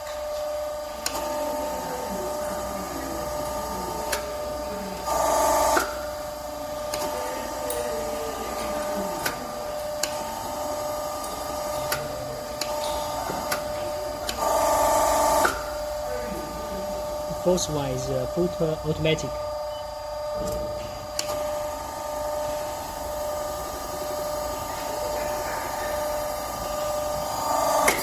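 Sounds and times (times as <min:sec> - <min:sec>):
hose crimping machine humming: 0:00.0 - 0:28.0.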